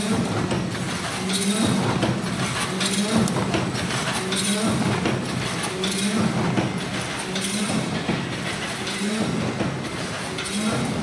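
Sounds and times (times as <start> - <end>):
metallic clicks and clanks: 0.0 - 11.0.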